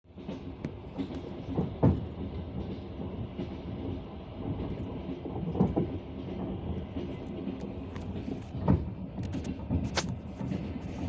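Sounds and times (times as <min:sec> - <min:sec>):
train rumble inside carriage: 0:00.0 - 0:11.0
wheels clacking over rail joints: 0:00.1 - 0:11.0.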